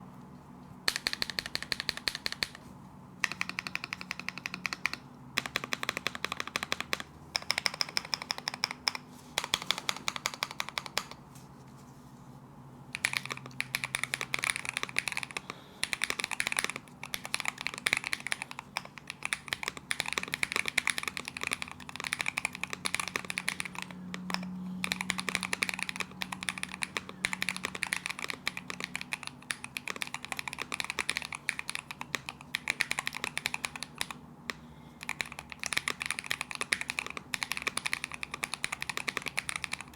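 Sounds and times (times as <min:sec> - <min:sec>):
fast mechanical keyboard typing: 0:00.9 - 0:02.6, 0:03.2 - 0:11.2, 0:12.9 - 0:39.9.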